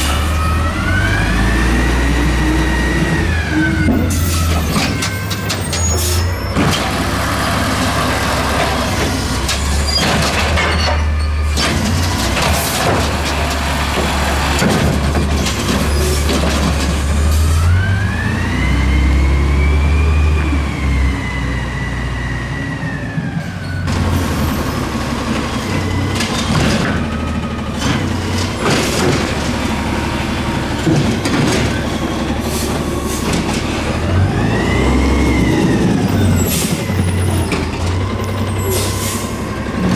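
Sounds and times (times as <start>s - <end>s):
truck engine whine: 0.0s - 39.9s.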